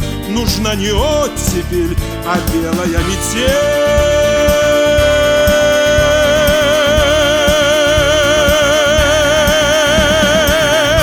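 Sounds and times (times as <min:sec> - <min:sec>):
man singing with vibrato: 0:00.0 - 0:11.0
pop backing track with drum beat: 0:00.0 - 0:11.0.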